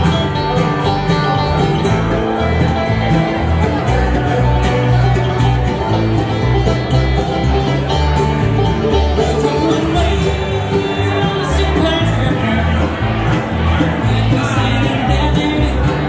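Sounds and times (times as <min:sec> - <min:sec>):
acoustic guitar: 0:00.0 - 0:16.0
banjo: 0:00.0 - 0:16.0
mandolin: 0:00.0 - 0:16.0
upright bass: 0:00.0 - 0:16.0.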